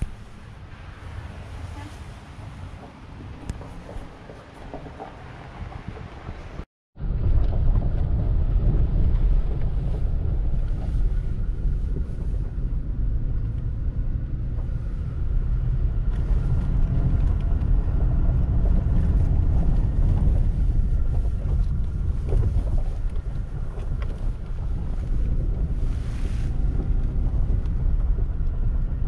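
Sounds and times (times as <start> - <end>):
engine and tyres rumbling: 0.0 - 29.0
gravel crunching: 0.0 - 29.0.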